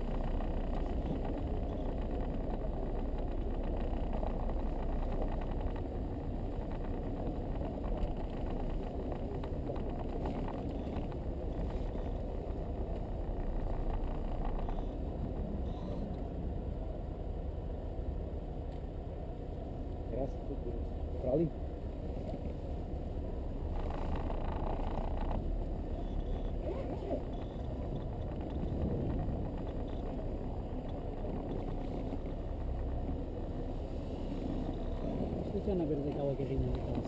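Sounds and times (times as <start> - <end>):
vehicle engine running at low speed: 0.0 - 37.0.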